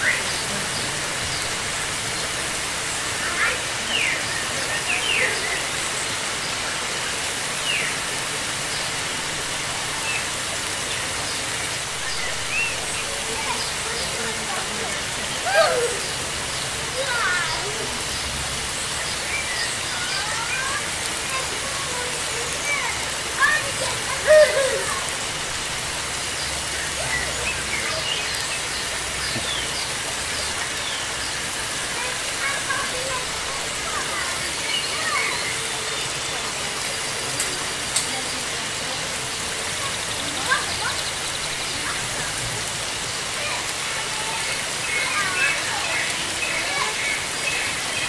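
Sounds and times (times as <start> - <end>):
running water hiss: 0.0 - 48.0
small birds chirping: 0.0 - 48.0.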